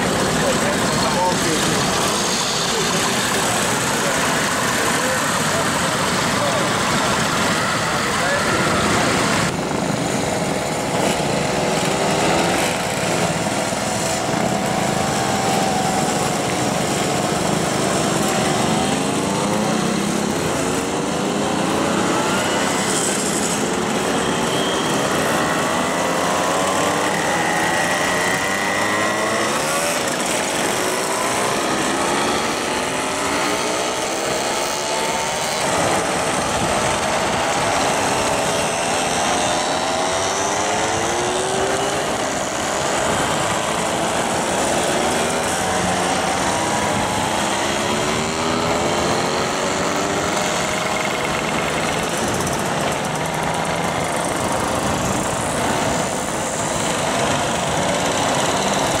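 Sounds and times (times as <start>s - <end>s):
moped revving up: 0.0s - 59.0s
mopeds buzzing past: 0.0s - 59.0s.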